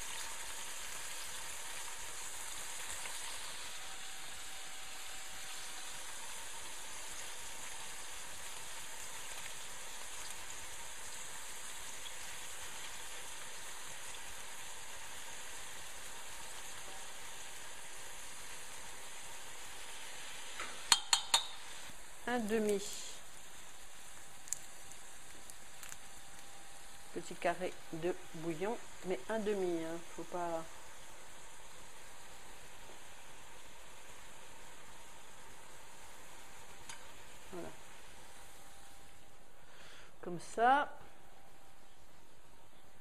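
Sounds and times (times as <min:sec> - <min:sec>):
meat sizzling in oil: 0:00.0 - 0:39.3.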